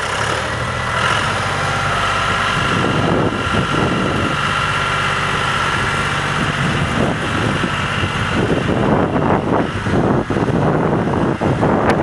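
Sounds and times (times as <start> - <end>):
tractor diesel engine running: 0.0 - 12.0
wind buffeting microphone: 0.9 - 12.0.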